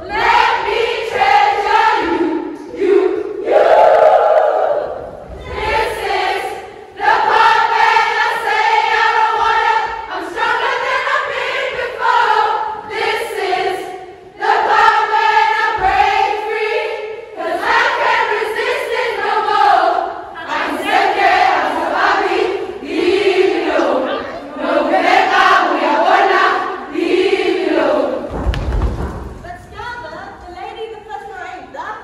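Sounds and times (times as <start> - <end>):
women singing in unison: 0.0 - 4.0, 4.6 - 28.3.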